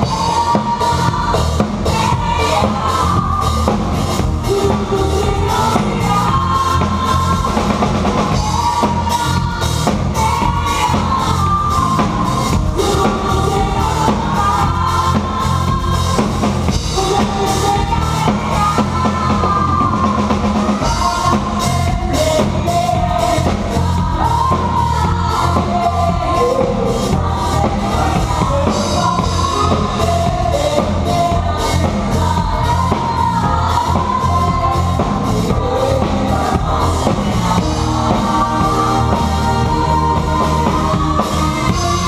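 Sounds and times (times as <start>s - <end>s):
drum kit beat: 0.0s - 42.0s.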